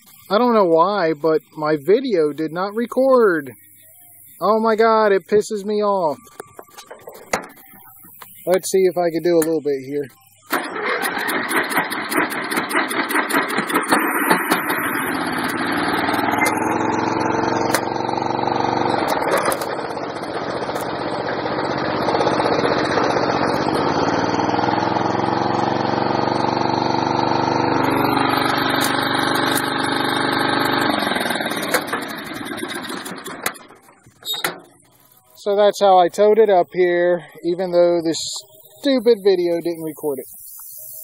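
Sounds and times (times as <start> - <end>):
riding lawn mower engine: 0.0 - 41.0.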